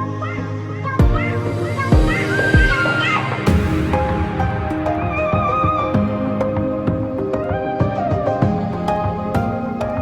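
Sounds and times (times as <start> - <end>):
soft melodic music with beat: 0.0 - 10.0.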